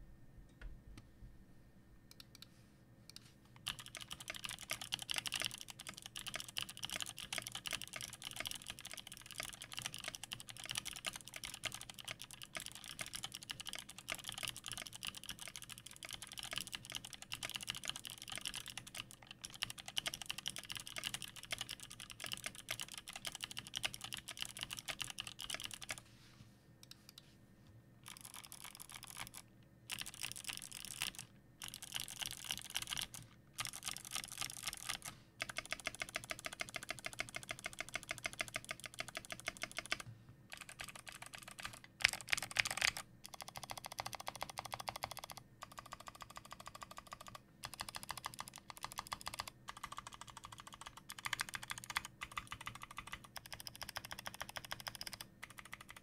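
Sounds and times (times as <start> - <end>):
fast mechanical keyboard typing: 3.6 - 26.0, 28.0 - 56.0.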